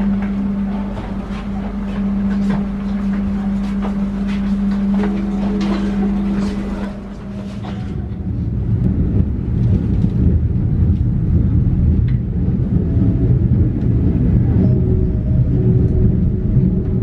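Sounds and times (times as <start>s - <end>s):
steady hum: 0.0s - 17.0s
train low rumble: 0.0s - 17.0s.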